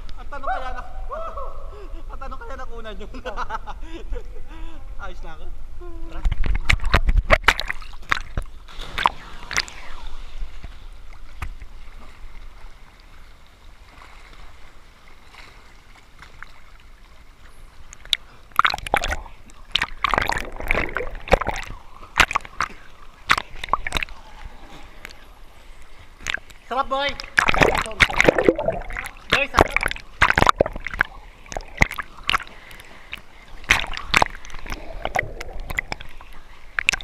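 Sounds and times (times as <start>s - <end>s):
water sloshing and splashing: 6.3s - 37.0s.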